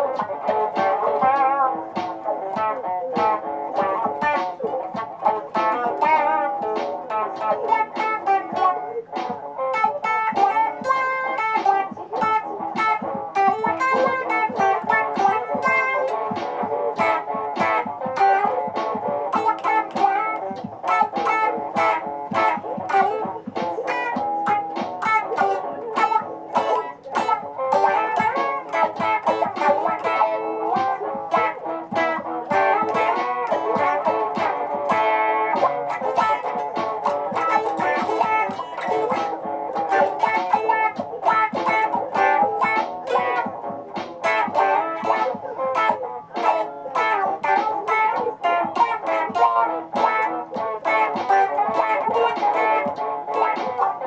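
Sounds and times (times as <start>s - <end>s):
electric guitar looped parts: 0.0s - 54.0s.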